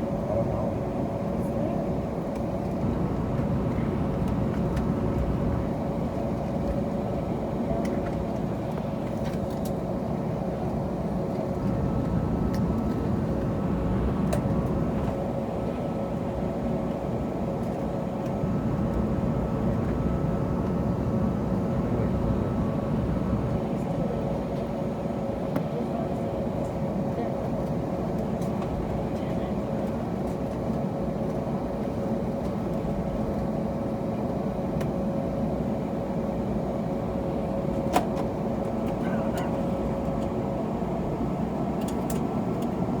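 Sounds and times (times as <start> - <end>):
airliner cabin drone with whine: 0.0 - 43.0.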